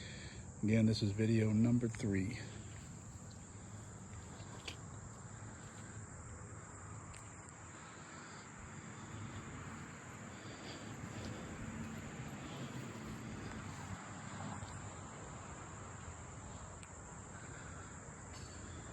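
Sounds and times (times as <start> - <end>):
insect chorus chirring: 0.0 - 18.9
low background hum: 0.0 - 18.9.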